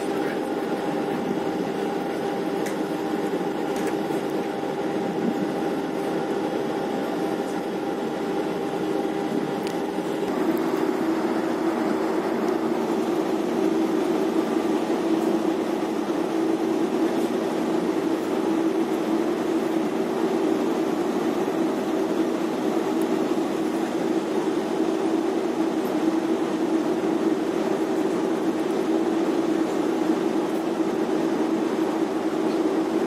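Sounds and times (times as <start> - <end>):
deck machinery hum: 0.0 - 33.0.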